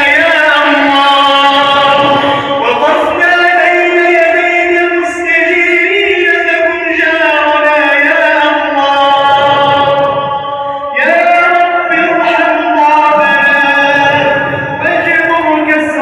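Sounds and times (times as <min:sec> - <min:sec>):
man chanting a long note: 0:00.0 - 0:16.0.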